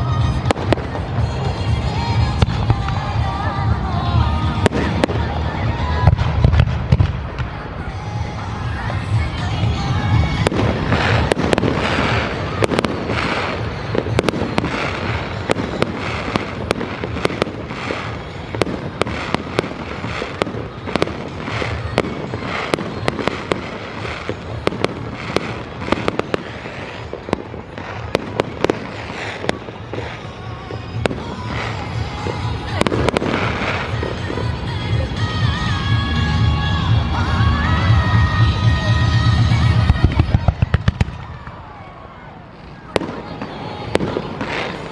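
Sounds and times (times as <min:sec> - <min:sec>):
fireworks cracks and bangs: 0:00.0 - 0:44.9.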